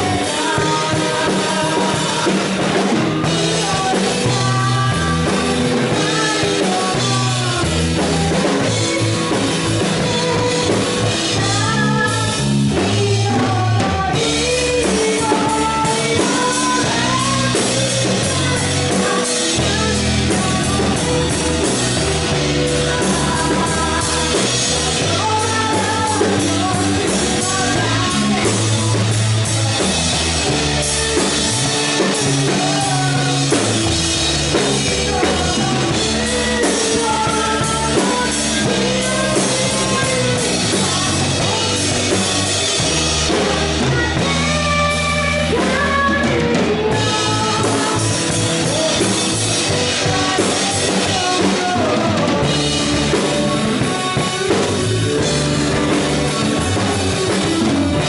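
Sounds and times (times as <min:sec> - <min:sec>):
drum kit: 0:00.0 - 0:58.0
keyboard: 0:00.0 - 0:58.0
woman singing: 0:00.0 - 0:58.0.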